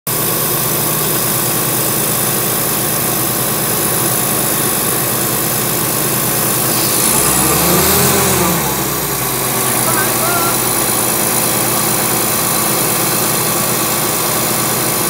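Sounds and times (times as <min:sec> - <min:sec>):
diesel air compressor running: 0:00.1 - 0:15.0.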